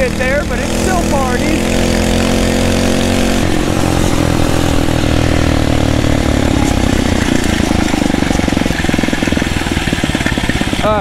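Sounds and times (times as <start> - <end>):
motorized bicycle engine revving: 0.0 - 11.0.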